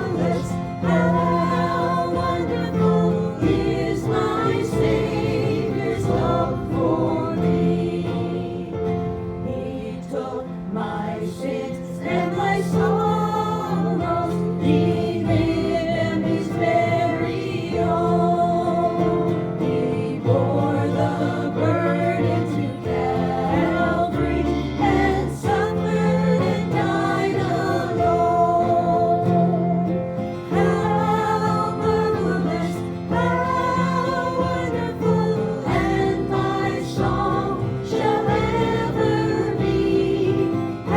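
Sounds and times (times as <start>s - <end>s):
group singing a hymn: 0.0s - 40.9s.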